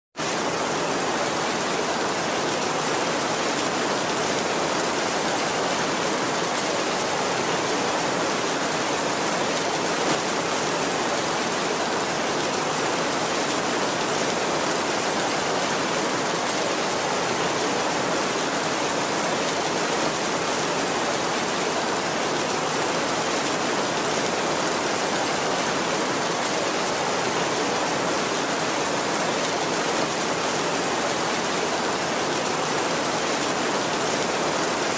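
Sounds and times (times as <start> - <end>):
heavy rain on a tin roof: 0.2 - 34.9.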